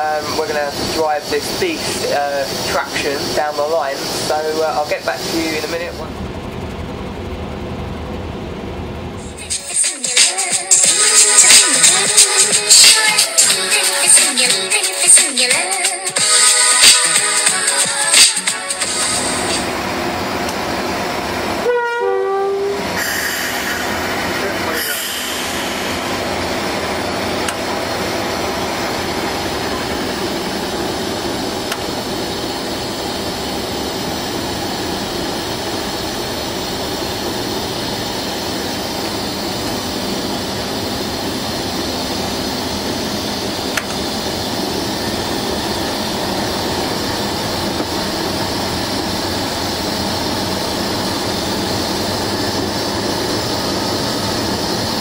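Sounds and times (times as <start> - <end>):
locomotive engine drone: 0.0 - 55.0
train running noise: 0.0 - 55.0.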